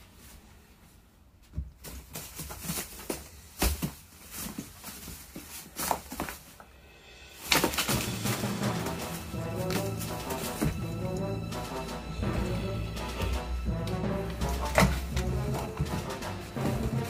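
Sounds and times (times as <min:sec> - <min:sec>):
plastic sheets rustling and scraping: 0:01.6 - 0:06.7, 0:07.3 - 0:17.0.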